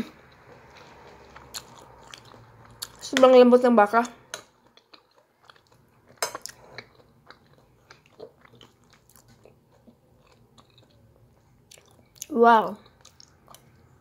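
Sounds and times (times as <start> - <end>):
person chewing food: 0.2 - 3.2, 4.3 - 14.0.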